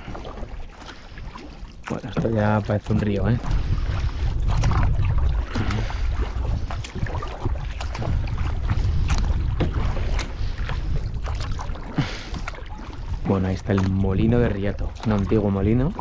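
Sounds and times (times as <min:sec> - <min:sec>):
paddle splashing and dripping: 0:00.0 - 0:16.0
wind rumble on microphone: 0:00.0 - 0:16.0.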